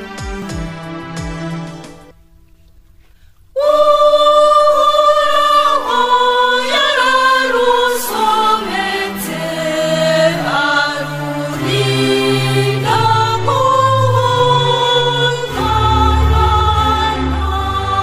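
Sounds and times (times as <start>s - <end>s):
choir singing sustained chords: 3.5s - 18.0s.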